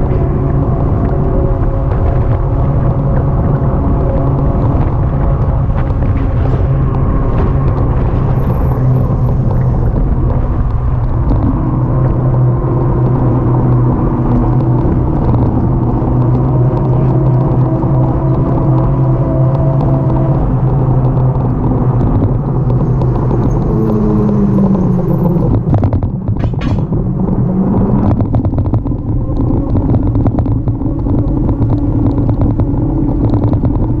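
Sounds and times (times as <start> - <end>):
motor traffic passing: 0.0 - 34.0
wind rumble: 0.0 - 34.0.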